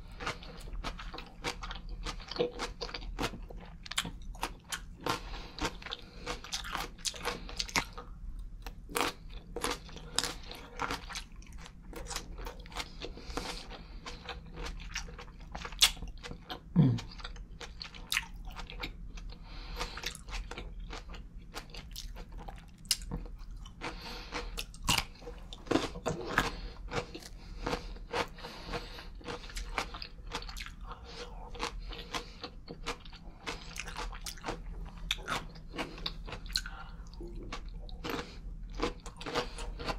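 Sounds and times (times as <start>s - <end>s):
wet crunching chewing: 0.1s - 39.9s.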